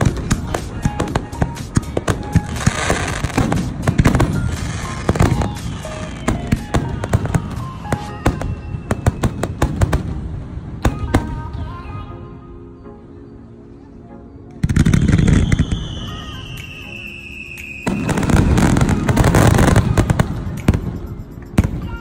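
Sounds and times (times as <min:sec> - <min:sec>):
fireworks bangs and crackles: 0:00.0 - 0:11.6, 0:14.6 - 0:22.0.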